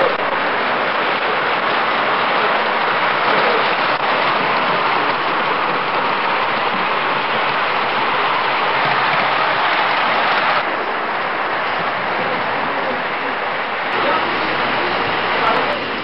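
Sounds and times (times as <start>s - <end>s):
model trains rolling on track: 0.0s - 16.0s.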